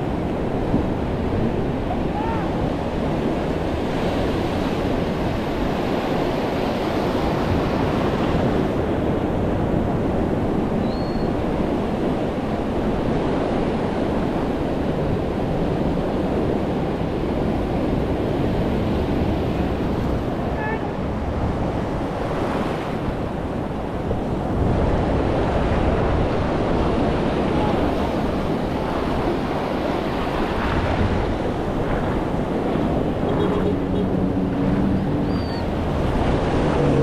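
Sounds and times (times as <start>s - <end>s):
ocean surf washing: 0.0s - 37.0s
wind noise on microphone: 0.0s - 37.0s.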